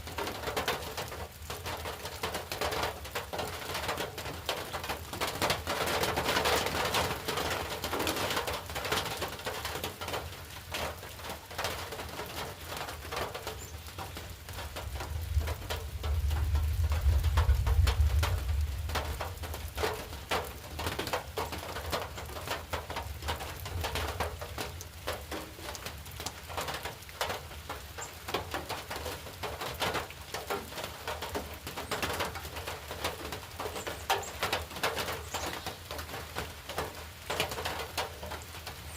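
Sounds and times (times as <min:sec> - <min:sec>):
rain pattering on hard surface: 0:00.0 - 0:38.9.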